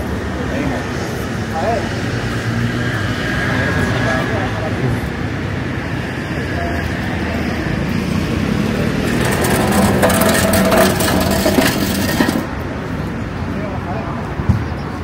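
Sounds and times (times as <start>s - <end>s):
road vehicle passing: 0.0s - 13.4s
street noise: 0.0s - 15.0s.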